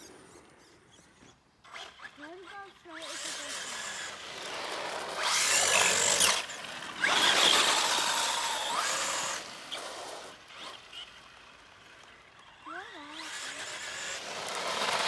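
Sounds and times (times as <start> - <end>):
toy truck motor whining: 0.0 - 15.0.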